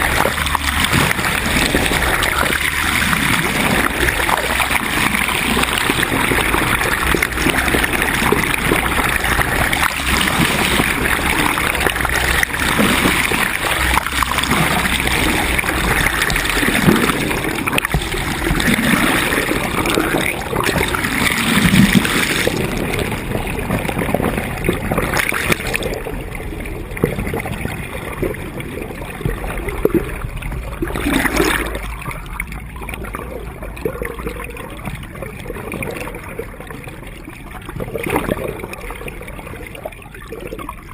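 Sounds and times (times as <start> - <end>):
water rushing along a hull: 0.0 - 40.9
water splashes: 0.0 - 40.9.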